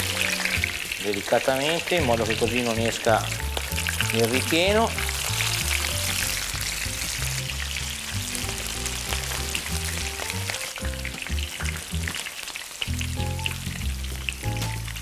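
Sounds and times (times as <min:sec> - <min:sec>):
eggplants frying in hot oil: 0:00.0 - 0:15.0.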